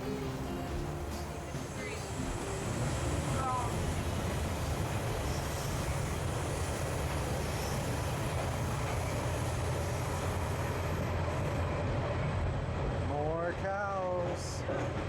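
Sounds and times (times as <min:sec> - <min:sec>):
train rumbling on track: 0:00.0 - 0:15.0
train wheel and carriage noise: 0:00.0 - 0:15.0.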